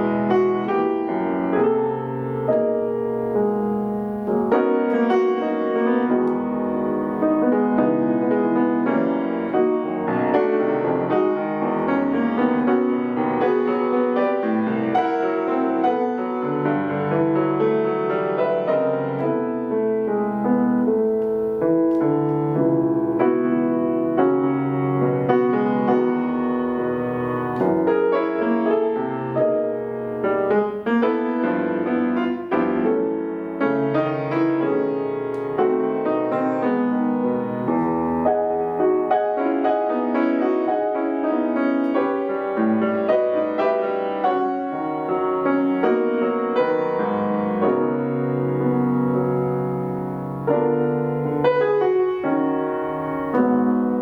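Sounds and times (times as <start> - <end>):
solo piano playing: 0.0 - 54.0.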